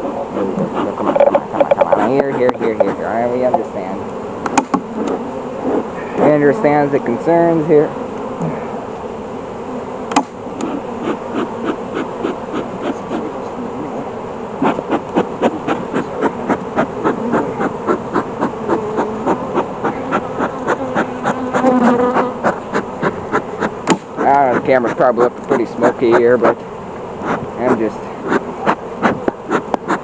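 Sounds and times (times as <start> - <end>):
bee smoker bellows puffing: 0.0 - 30.0
bees buzzing: 0.0 - 30.0.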